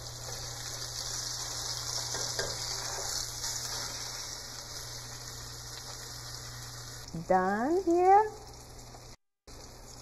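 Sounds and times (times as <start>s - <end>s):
fish fillet sizzling in hot oil: 0.0s - 10.0s.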